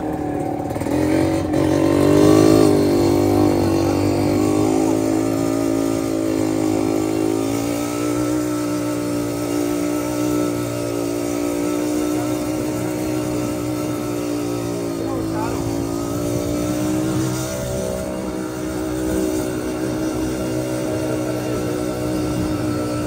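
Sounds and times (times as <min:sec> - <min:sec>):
two-stroke motorcycle engine: 0:00.0 - 0:23.0.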